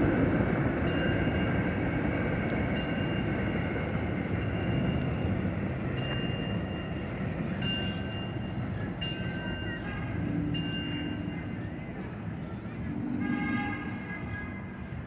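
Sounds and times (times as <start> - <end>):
subway train rumbling on track: 0.0 - 15.0.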